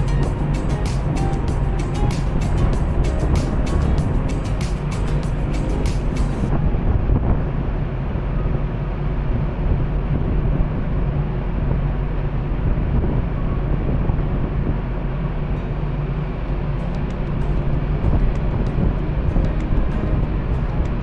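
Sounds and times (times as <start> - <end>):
ship engines droning: 0.0 - 21.0
wind noise on microphone: 0.0 - 21.0.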